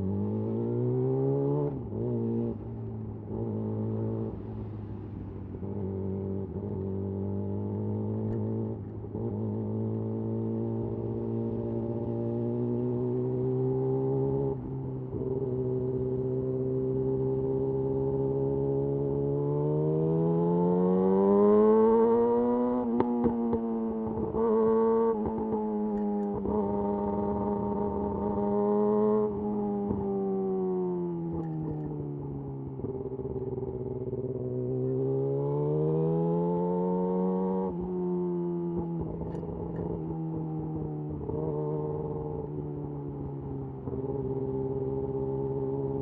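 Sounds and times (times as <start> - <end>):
motorcycle engine revving: 5.6 - 46.0.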